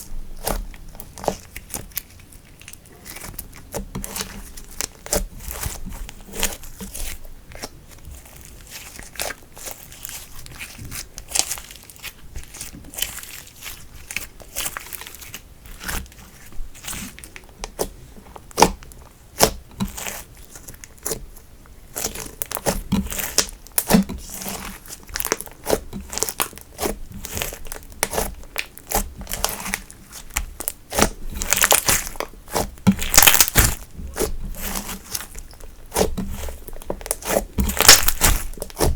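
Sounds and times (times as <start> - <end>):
hands kneading slime: 0.0 - 38.9.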